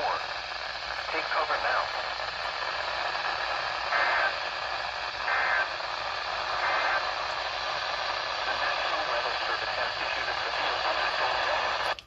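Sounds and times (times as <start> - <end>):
static hiss: 0.0 - 12.0
weather radio broadcast: 0.0 - 12.0.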